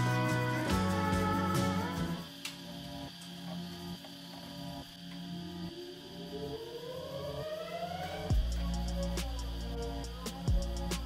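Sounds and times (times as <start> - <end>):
background music with sustained notes: 0.0 - 11.0.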